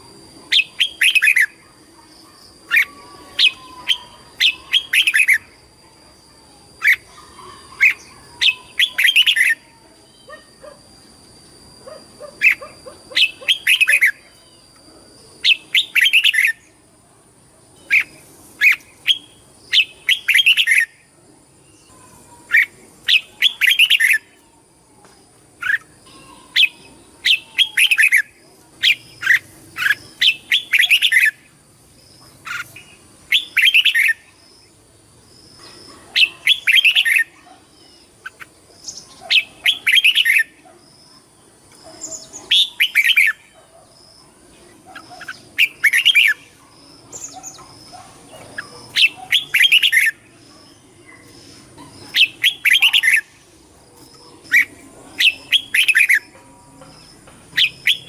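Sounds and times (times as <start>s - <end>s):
bird chirping song: 0.0s - 16.8s, 17.8s - 58.0s.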